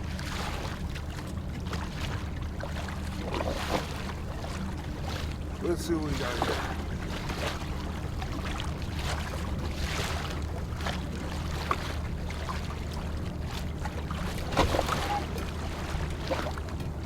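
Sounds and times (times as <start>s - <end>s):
water lapping against kayak hull: 0.0s - 17.0s.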